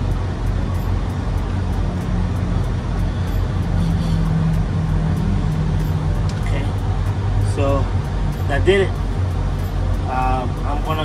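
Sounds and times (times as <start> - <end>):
diesel truck engines idling: 0.0 - 11.0.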